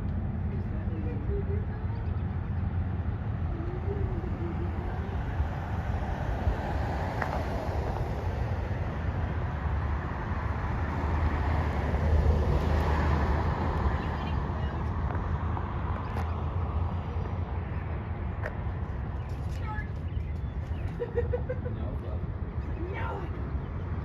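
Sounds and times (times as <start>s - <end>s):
rail noise: 0.0s - 20.2s.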